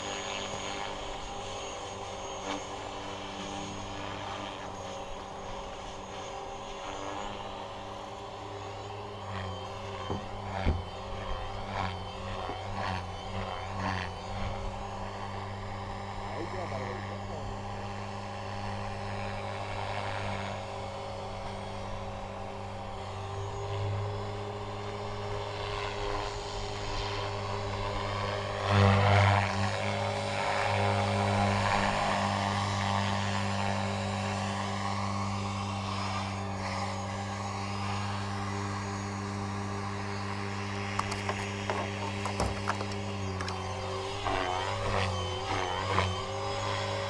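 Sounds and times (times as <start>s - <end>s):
model helicopter rotor drone: 0.0s - 47.0s.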